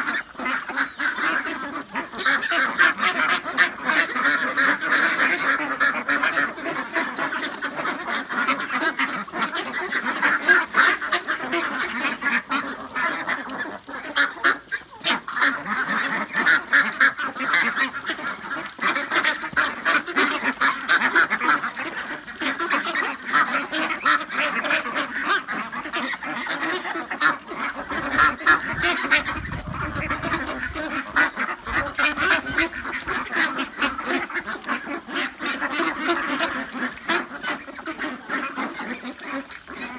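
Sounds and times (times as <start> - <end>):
ducklings quacking: 0.0 - 39.9.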